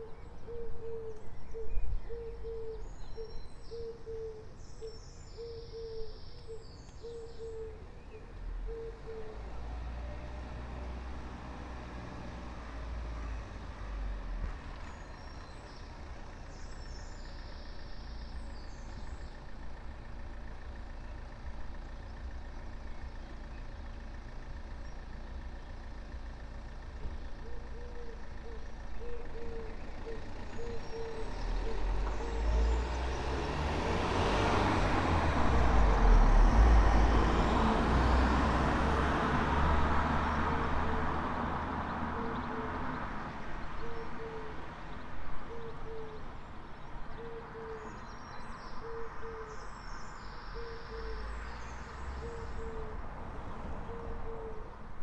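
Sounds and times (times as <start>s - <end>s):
low traffic hum: 0.0s - 55.0s
heavy vehicle engine rumble: 6.1s - 55.0s.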